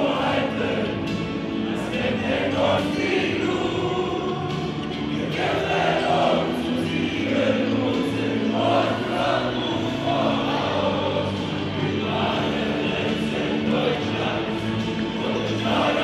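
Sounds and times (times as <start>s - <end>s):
crowd singing in chorus: 0.0s - 16.0s
music: 0.0s - 16.0s.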